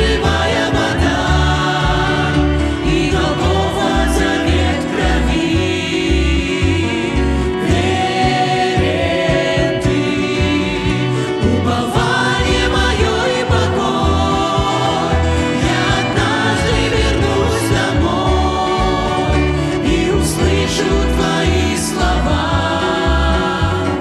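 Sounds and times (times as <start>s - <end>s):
acoustic guitar: 0.0s - 24.0s
double bass low notes: 0.0s - 24.0s
group singing a hymn in harmony: 0.0s - 24.0s
keyboard: 0.0s - 24.0s
violin: 0.0s - 24.0s.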